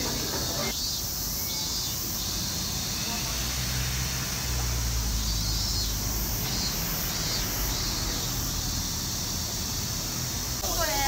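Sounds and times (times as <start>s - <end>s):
faint chirps: 0.0s - 11.0s
steady high hiss: 0.0s - 11.0s.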